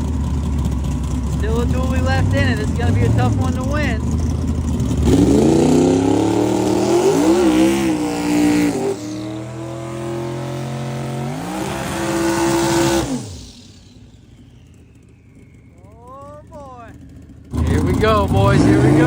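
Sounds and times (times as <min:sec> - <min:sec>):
racing car engine revving: 0:00.0 - 0:15.6, 0:16.6 - 0:19.0.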